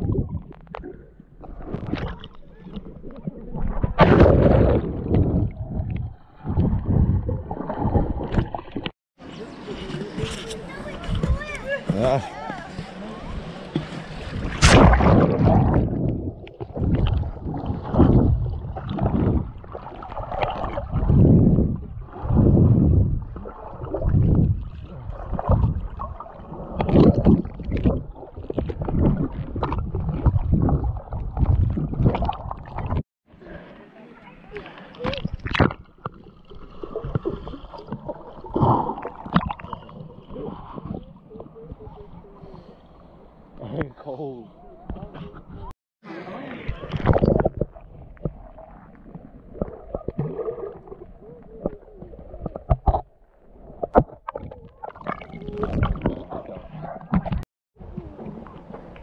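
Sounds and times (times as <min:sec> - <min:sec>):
water sloshing and gurgling: 0:00.0 - 0:33.7, 0:34.3 - 0:45.8, 0:46.5 - 0:59.0.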